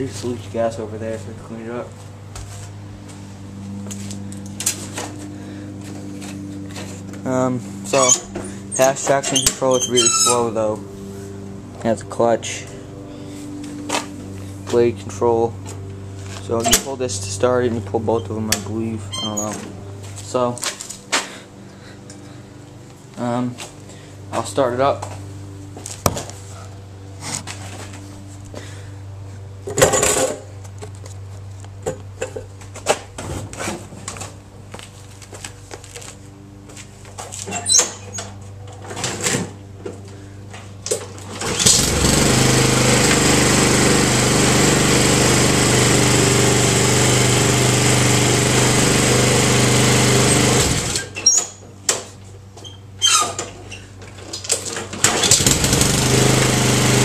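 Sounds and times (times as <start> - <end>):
lawn mower engine running: 0.0 - 33.0, 34.0 - 57.0.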